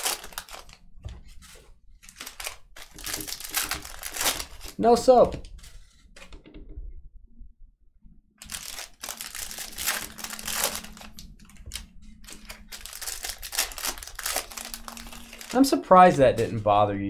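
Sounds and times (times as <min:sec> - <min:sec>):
plastic wrappers crinkling: 0:00.0 - 0:06.3, 0:08.4 - 0:16.6.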